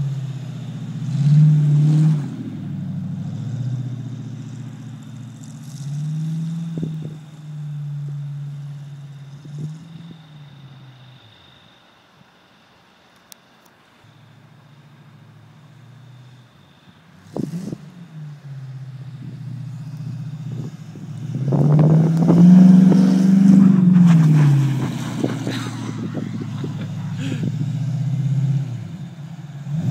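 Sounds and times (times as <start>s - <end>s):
car engine revving: 0.0s - 11.8s, 14.0s - 29.9s.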